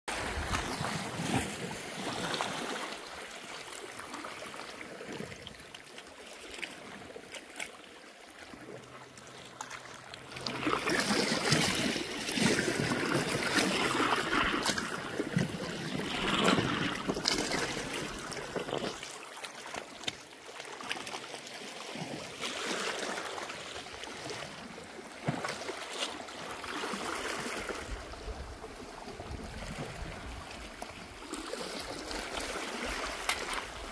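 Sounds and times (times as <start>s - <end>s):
waves splashing over rocks: 0.1s - 7.2s, 9.7s - 33.9s
wind: 0.1s - 33.9s.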